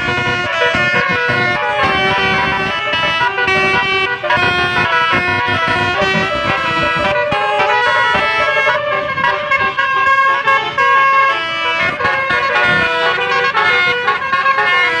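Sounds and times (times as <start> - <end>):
musical bus air horn: 0.0 - 15.0.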